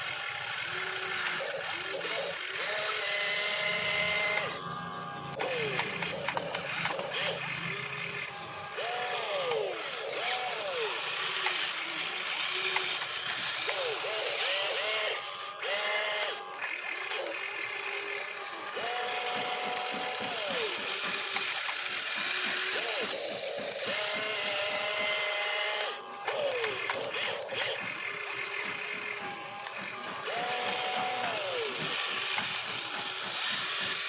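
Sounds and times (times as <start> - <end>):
electric gear motors whining: 0.0 - 34.0.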